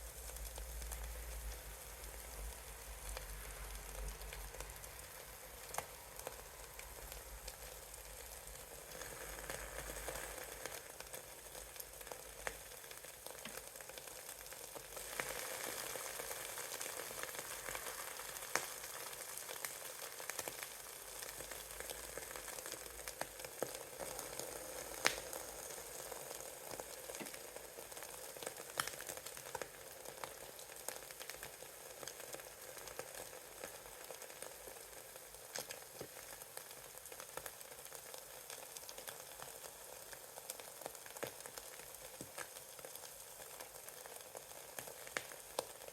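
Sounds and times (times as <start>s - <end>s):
eggs sizzling in a pan: 0.0s - 45.9s
small pops and crackles: 5.6s - 45.9s.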